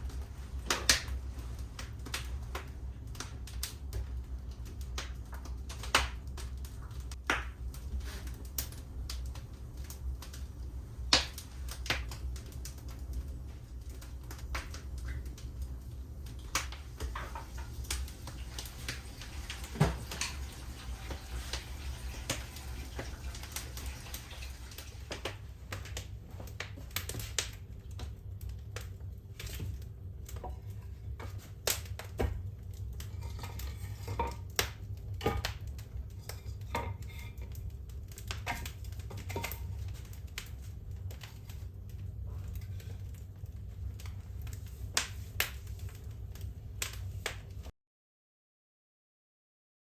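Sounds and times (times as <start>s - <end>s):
fire crackling: 0.0s - 47.7s.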